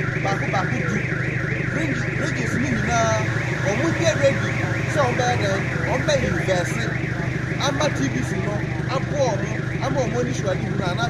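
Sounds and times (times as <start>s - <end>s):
electronic alarm warbling: 0.0s - 11.0s.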